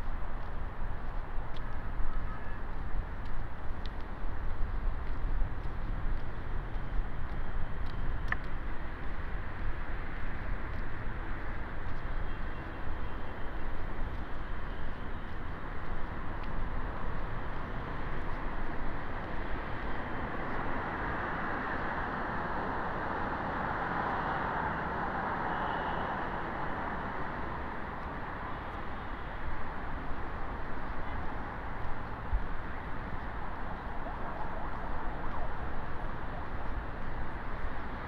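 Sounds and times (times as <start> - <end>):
street traffic noise: 0.0 - 38.0.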